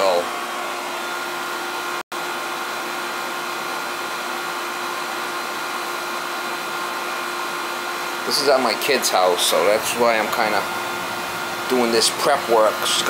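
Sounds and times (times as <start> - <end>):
oil burner blower hum: 0.0 - 13.0.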